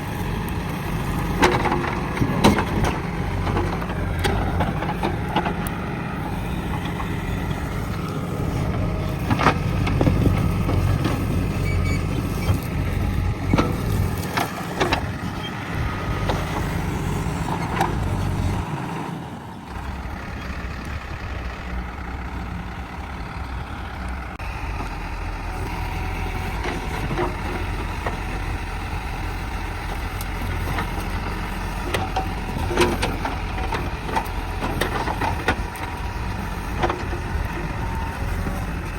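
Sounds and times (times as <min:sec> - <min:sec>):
diesel engine working: 0:00.0 - 0:38.9.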